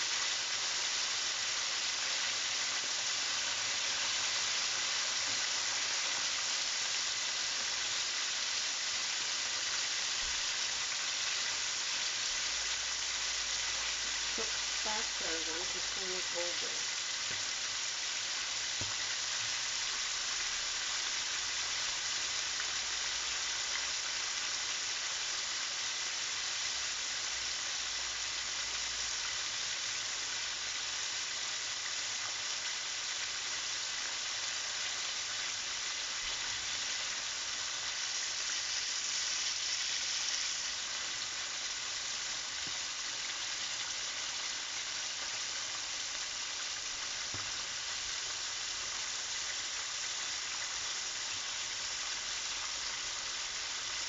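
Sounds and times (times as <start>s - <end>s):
chicken deep-frying in oil: 0.0s - 54.0s.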